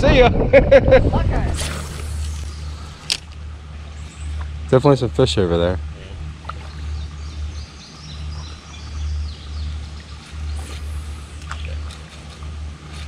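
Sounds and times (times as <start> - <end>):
birds chirping: 1.6 - 13.0.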